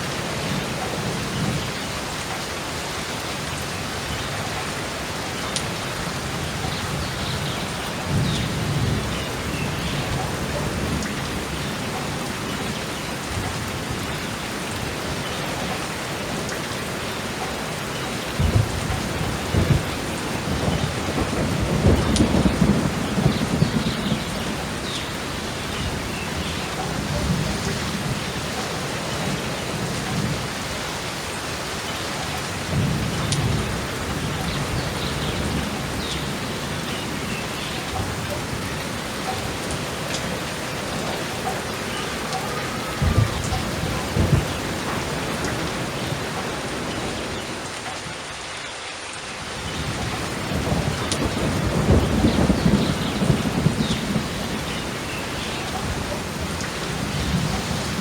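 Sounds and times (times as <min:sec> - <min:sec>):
heavy rain falling: 0:00.0 - 0:58.0
thunder rumbling and cracking: 0:04.6 - 0:31.1, 0:32.4 - 0:47.8, 0:49.5 - 0:58.0.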